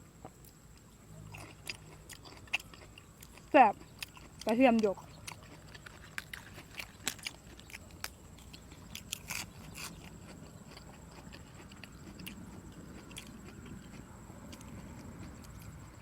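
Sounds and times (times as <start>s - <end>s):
person chewing seafood: 0.2s - 16.0s.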